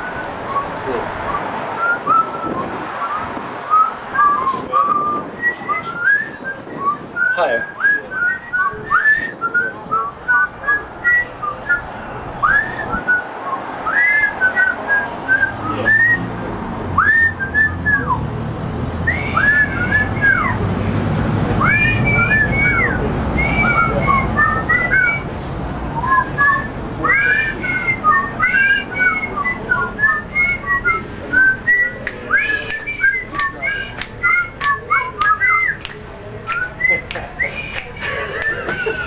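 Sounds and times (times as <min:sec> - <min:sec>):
men whistling a tune: 0:00.0 - 0:18.4, 0:19.0 - 0:20.6, 0:21.6 - 0:25.3, 0:25.9 - 0:39.0.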